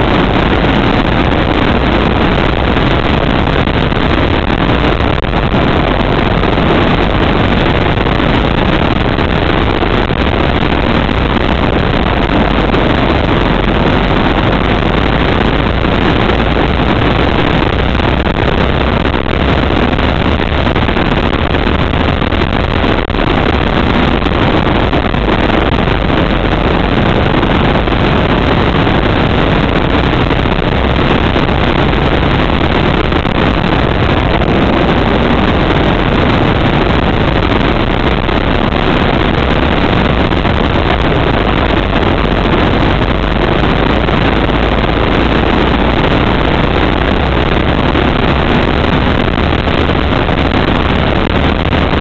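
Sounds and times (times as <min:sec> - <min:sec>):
go-kart engine running: 0:00.0 - 0:52.0.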